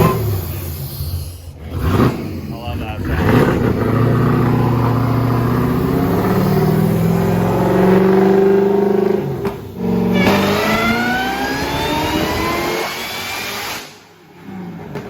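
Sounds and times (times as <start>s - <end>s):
engine revving under load: 0.0s - 15.0s.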